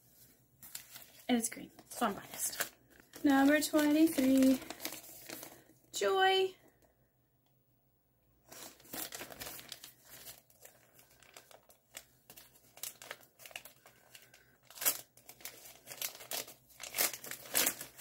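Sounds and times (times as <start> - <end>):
packaging bag crinkling: 0.6 - 5.8, 8.5 - 18.0.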